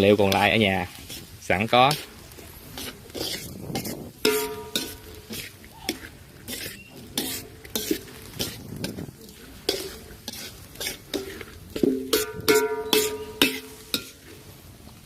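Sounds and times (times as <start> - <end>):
spatula scraping a frying pan: 0.0 - 14.6
meat sizzling: 0.0 - 15.0.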